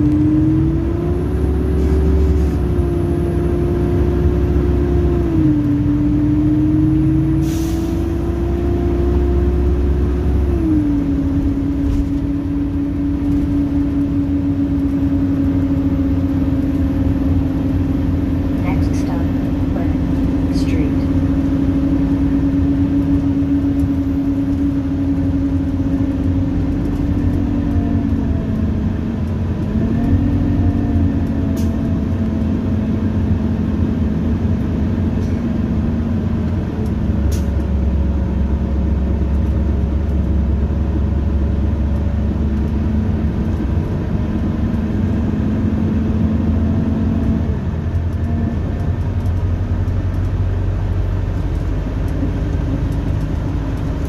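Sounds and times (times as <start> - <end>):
bus diesel engine drone: 0.0 - 54.0
low road rumble: 0.0 - 54.0.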